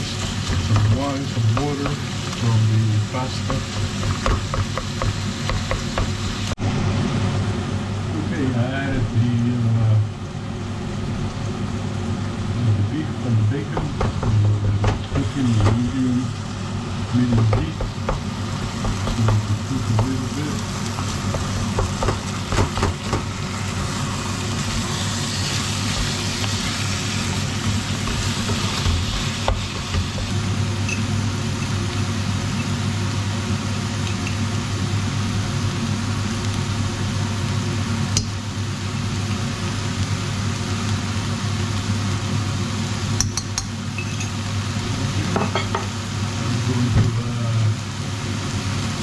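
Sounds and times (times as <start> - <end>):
meat sizzling in a pot: 0.0 - 6.9, 10.1 - 49.0
steady low hum: 0.0 - 39.2.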